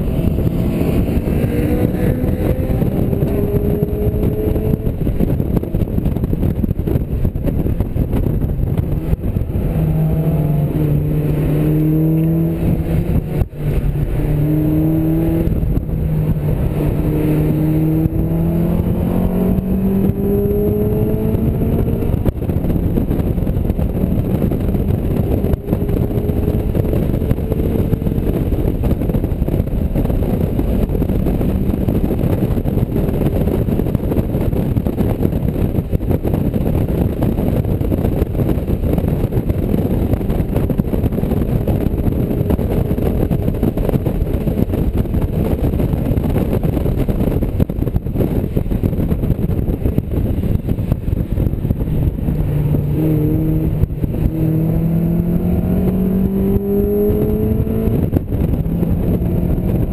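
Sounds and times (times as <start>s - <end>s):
car engine pulling hard: 0.0s - 59.9s
wind and road noise: 0.0s - 59.9s.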